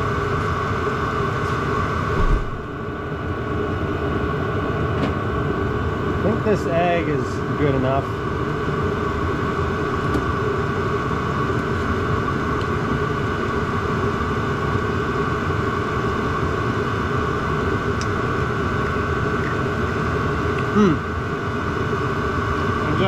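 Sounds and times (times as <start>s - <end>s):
heater fan and burner whir: 0.0s - 23.0s.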